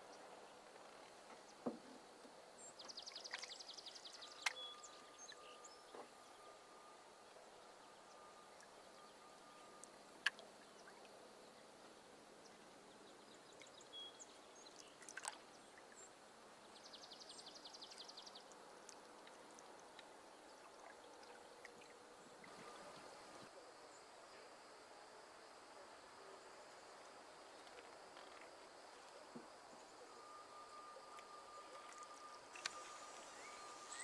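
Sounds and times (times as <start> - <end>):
faint steady hiss: 0.0 - 34.0.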